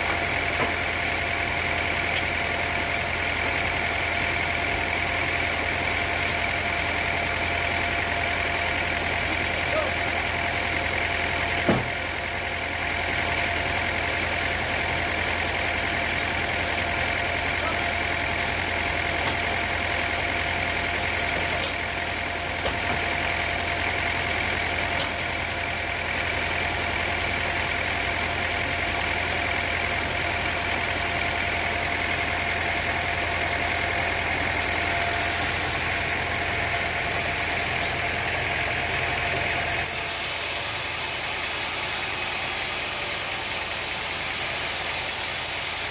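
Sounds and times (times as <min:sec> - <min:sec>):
sawmill machinery droning: 0:00.0 - 0:45.9.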